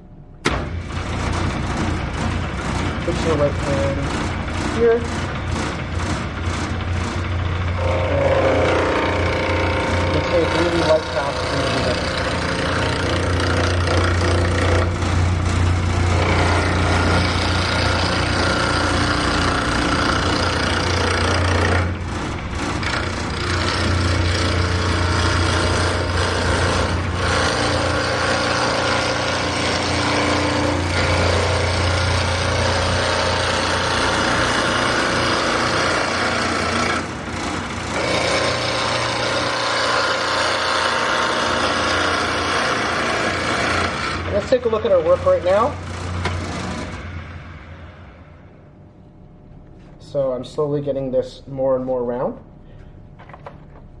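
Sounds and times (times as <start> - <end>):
tool cutting wood on lathe: 0.6 - 47.2
lathe motor hum: 0.7 - 48.3.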